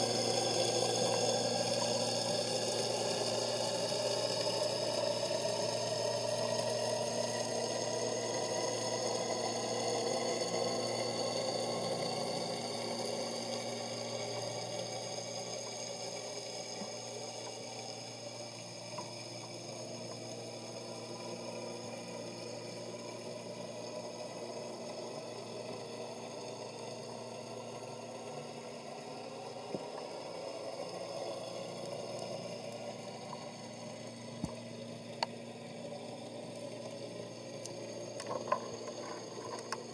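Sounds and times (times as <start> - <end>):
faint ticks: 0.0 - 28.9, 29.5 - 39.9
boat engine hum underwater: 0.0 - 39.9.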